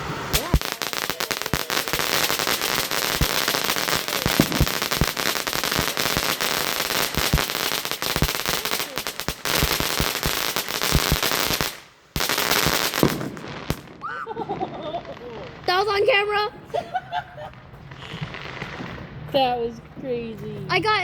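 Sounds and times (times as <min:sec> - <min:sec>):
fireworks crackling and popping: 0:00.0 - 0:21.0.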